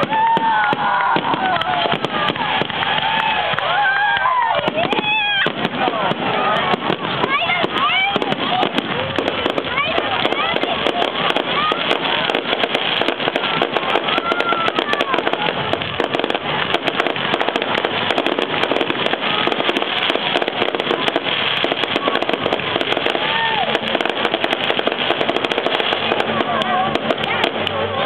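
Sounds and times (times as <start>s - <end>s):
fireworks banging and crackling: 0.0s - 28.0s
whistling fireworks: 0.0s - 28.0s.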